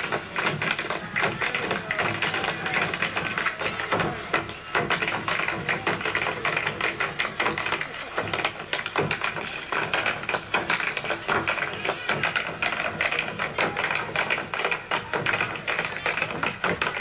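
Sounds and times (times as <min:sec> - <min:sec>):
tap shoes striking stage floor: 0:00.0 - 0:17.0.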